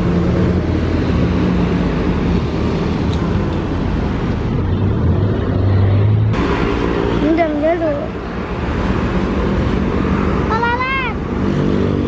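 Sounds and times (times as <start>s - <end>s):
bus engine drone: 0.0s - 12.0s
road traffic noise: 0.0s - 12.0s.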